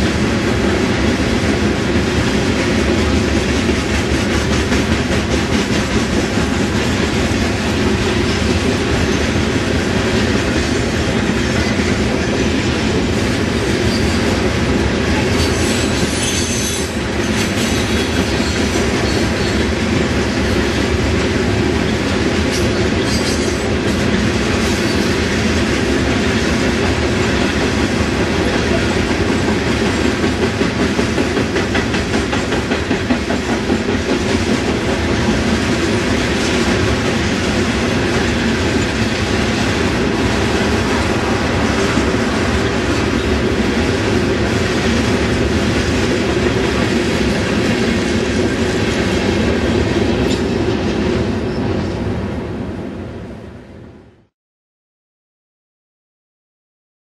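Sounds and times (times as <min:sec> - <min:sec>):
freight train rumbling past: 0:00.0 - 0:54.3.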